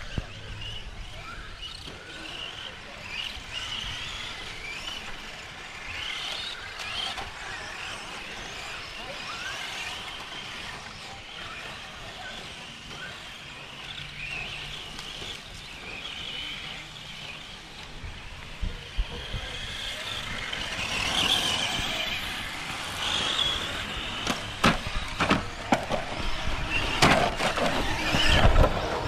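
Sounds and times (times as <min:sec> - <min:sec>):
model car motors whining: 0:00.0 - 0:29.0.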